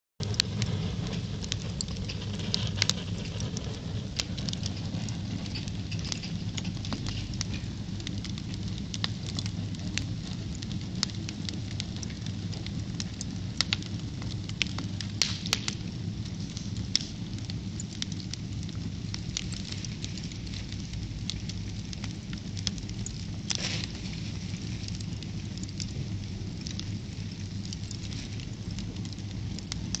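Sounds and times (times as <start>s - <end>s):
low fire rumble: 0.2s - 30.0s
wood fire crackling and popping: 0.2s - 30.0s.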